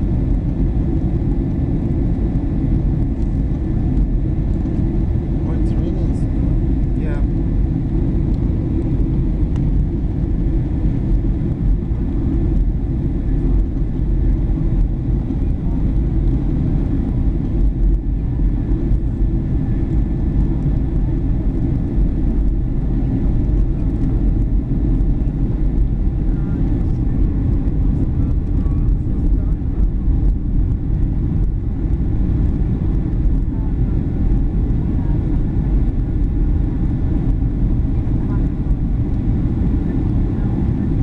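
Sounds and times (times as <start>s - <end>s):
airliner cabin engine rumble: 0.0s - 41.0s.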